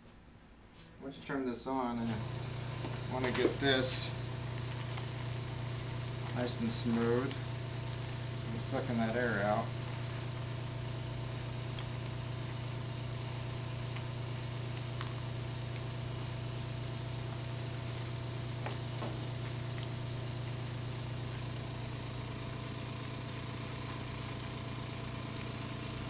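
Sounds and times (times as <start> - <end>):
vacuum pump humming: 1.9 - 26.0.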